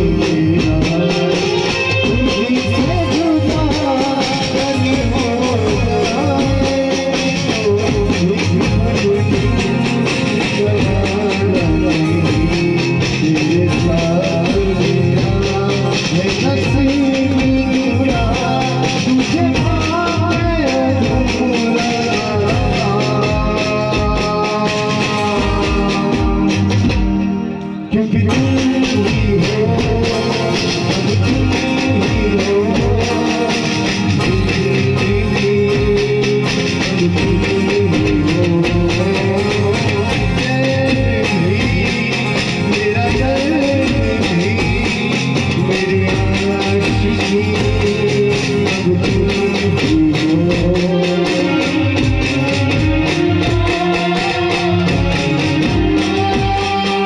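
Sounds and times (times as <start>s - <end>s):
song with singing over a beat: 0.0s - 57.0s.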